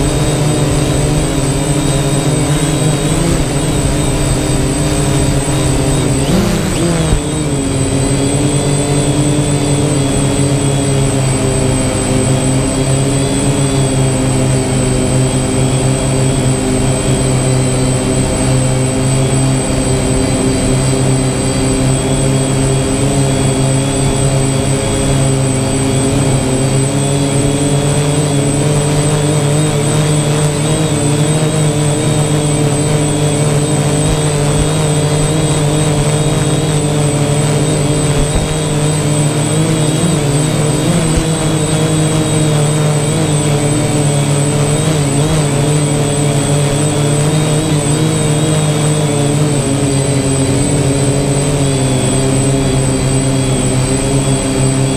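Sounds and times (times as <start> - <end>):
drone propellers whining: 0.0 - 54.9.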